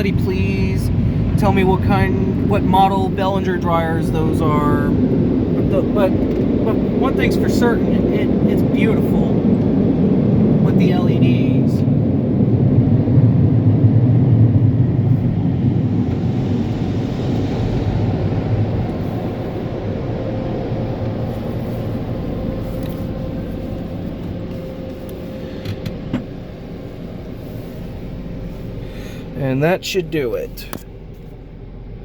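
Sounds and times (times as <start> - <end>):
car wash air blowers: 0.0 - 32.0.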